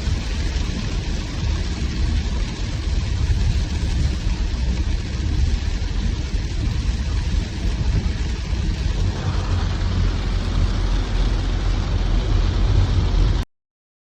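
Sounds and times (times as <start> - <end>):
heavy rain hissing: 0.0 - 13.4
low rumble: 0.0 - 13.5.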